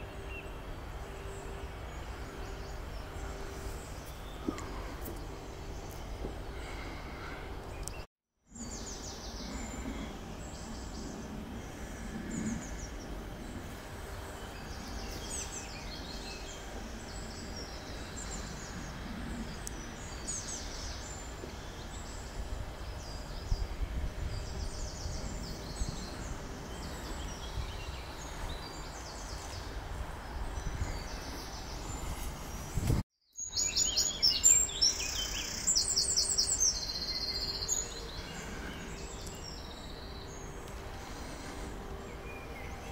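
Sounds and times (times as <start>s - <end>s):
birds chirping and singing: 0.0s - 42.9s
steady outdoor background hiss: 0.0s - 42.9s.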